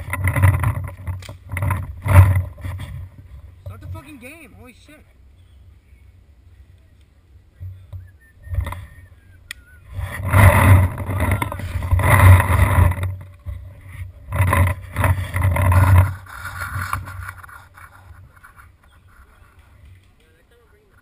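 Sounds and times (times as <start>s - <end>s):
rumbling and rustling while running: 0.0s - 4.5s, 7.3s - 9.2s, 9.8s - 21.0s.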